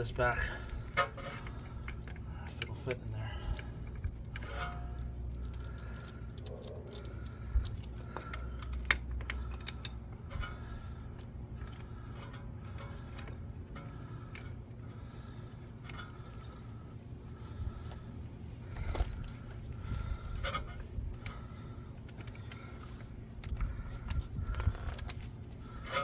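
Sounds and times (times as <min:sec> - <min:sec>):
metal clinking and scraping: 0:00.0 - 0:26.0.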